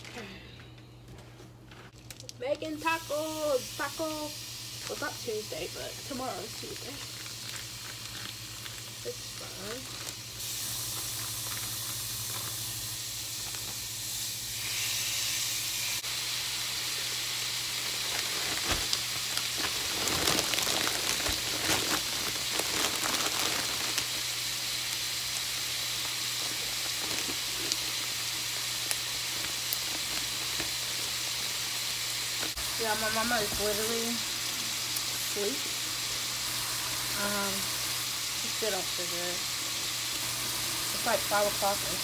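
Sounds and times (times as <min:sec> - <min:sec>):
meat sizzling in a pan: 0:02.7 - 0:42.0.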